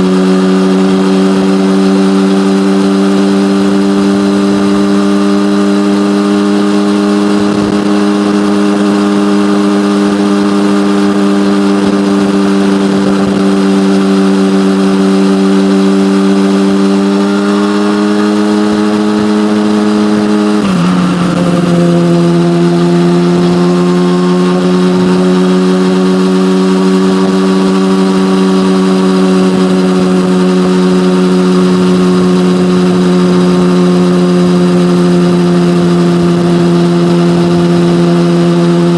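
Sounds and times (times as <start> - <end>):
motorcycle cruising: 0.0 - 38.9.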